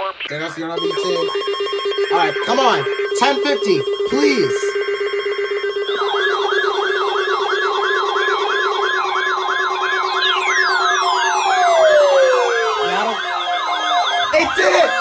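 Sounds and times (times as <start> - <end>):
steady alarm tone: 0.3 - 15.0
warbling alarm siren: 0.3 - 15.0
falling tone: 0.5 - 15.0.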